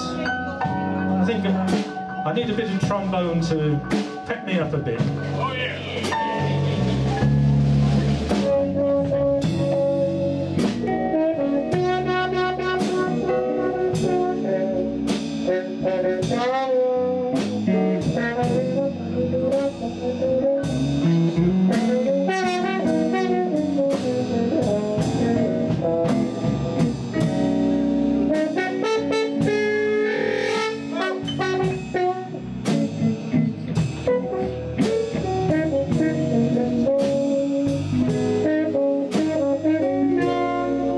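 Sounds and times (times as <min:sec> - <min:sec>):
jazz-blues band playing: 0:00.0 - 0:40.9
steady drum beat: 0:00.0 - 0:40.9
muted trombone solo: 0:08.1 - 0:40.9.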